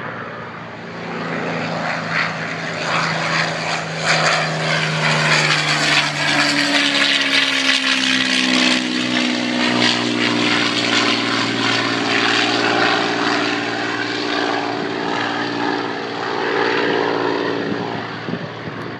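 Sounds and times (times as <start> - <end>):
propeller plane passing overhead: 0.0 - 18.9.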